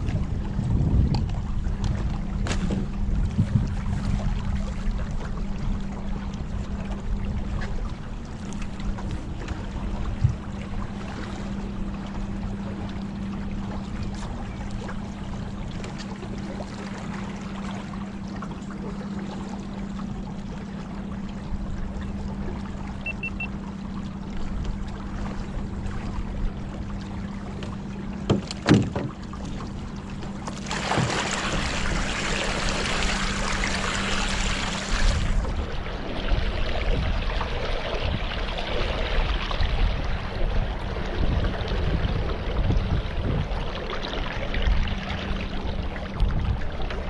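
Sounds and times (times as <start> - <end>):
boat motor hum: 0.0 - 47.0
water noise: 0.0 - 47.0.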